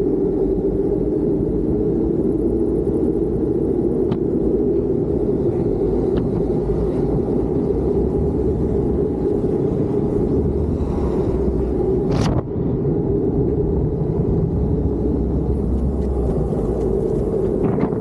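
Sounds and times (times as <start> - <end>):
wheels rolling over asphalt: 0.0 - 18.0.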